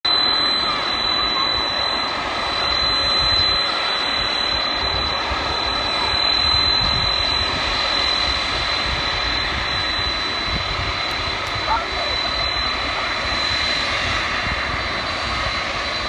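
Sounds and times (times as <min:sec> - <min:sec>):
airplane engine running: 0:00.1 - 0:16.0.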